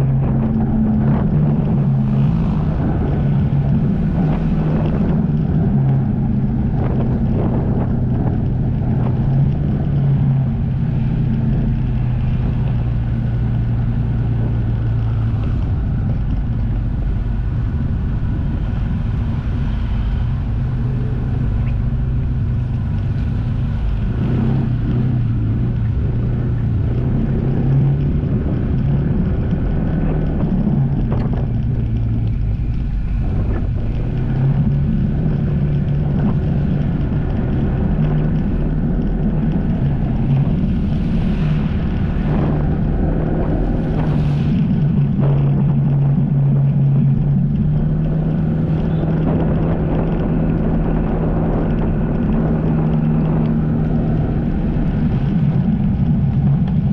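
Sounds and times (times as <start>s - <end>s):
jet ski engine hum: 0.0s - 56.9s
wind and water rumble: 0.0s - 56.9s.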